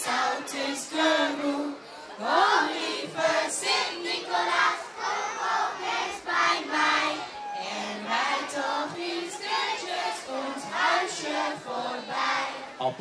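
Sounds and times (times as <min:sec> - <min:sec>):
children singing together: 0:00.0 - 0:12.9.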